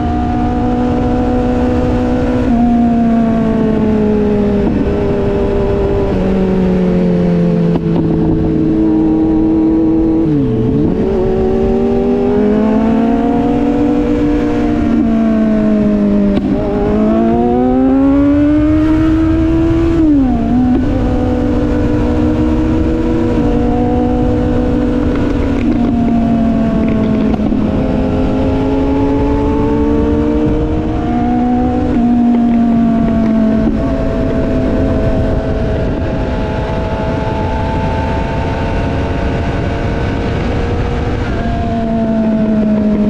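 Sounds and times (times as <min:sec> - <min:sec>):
low wind rumble: 0:00.0 - 0:43.0
motorcycle engine running: 0:00.0 - 0:43.0.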